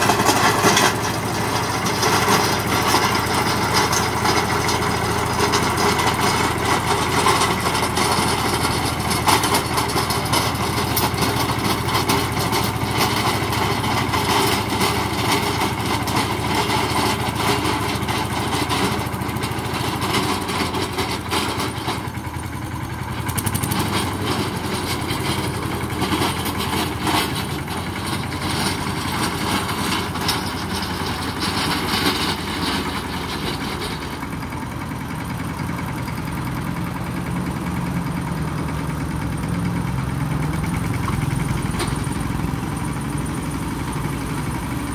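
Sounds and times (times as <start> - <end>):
rotavator churning soil: 0.0 - 44.9
tractor engine running: 0.0 - 44.9.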